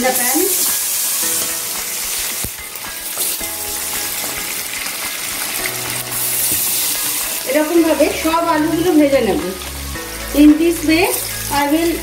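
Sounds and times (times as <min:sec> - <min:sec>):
potato slices sizzling in oil: 0:00.0 - 0:12.0.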